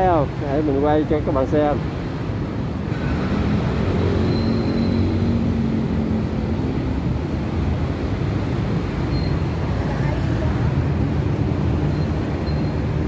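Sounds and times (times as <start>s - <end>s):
rumble of vehicle engines: 0.0s - 13.0s.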